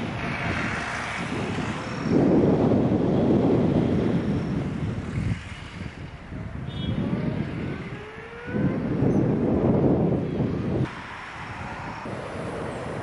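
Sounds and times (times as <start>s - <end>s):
wind gusting on microphone: 0.0s - 13.0s.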